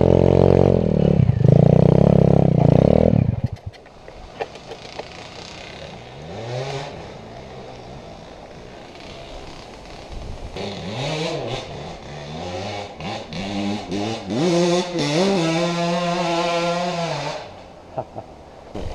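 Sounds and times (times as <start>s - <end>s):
small motorbike engine revving: 0.0s - 3.5s, 4.7s - 17.6s.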